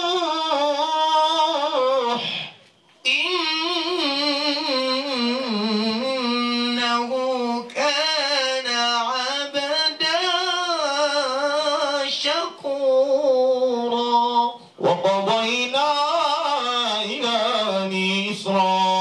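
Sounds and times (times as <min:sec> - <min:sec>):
man chanting into a microphone: 0:00.0 - 0:19.0.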